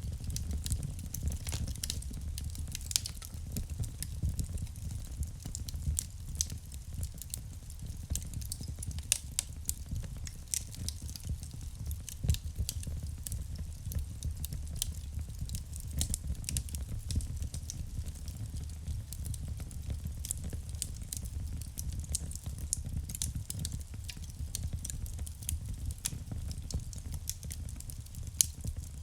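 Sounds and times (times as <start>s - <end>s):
low rumble of flames: 0.0s - 29.0s
logs crackling and popping: 0.1s - 29.0s.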